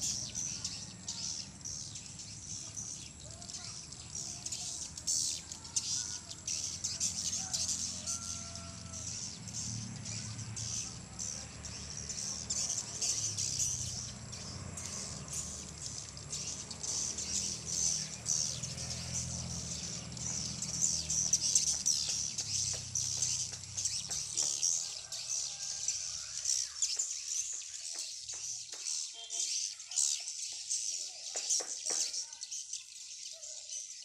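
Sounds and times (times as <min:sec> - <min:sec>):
swiftlets chirping and twittering: 0:00.0 - 0:34.0.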